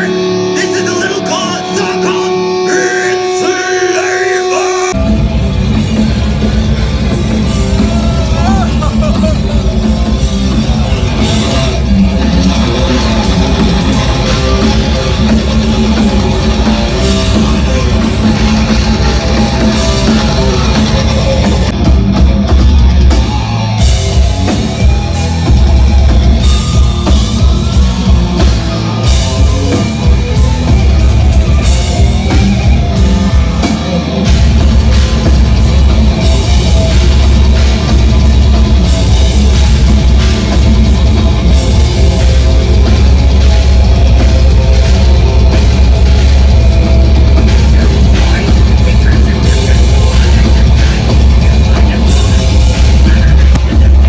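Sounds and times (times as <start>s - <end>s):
heavy metal music: 0.0s - 54.0s.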